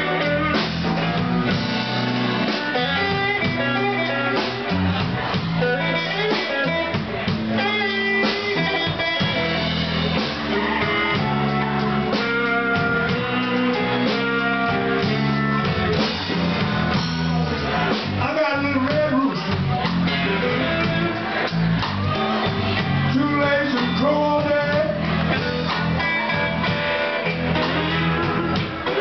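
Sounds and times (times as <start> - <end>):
live blues band playing: 0.0 - 29.0.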